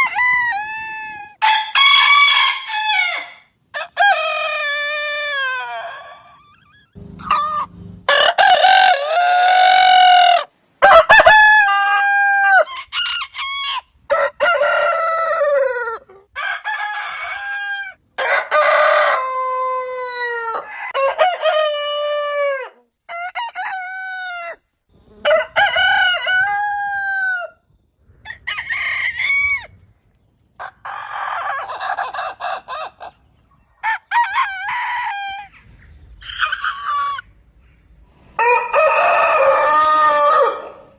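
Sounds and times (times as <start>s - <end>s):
roosters crowing: 0.0s - 29.9s, 30.6s - 37.4s, 38.1s - 40.9s.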